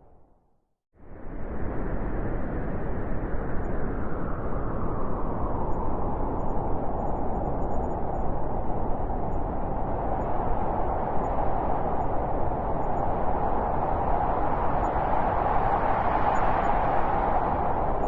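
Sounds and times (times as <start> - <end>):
blizzard wind howling: 1.0 - 18.0.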